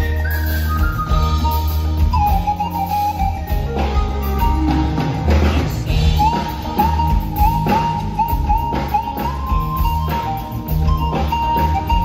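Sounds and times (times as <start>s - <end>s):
high gliding melodic lead line: 0.0s - 12.0s
soft-rock band playing: 0.0s - 12.0s.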